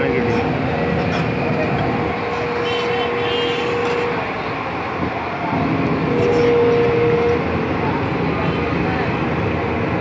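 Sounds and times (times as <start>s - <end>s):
excavator diesel engine running: 0.0s - 10.0s
steady whine: 0.0s - 10.0s.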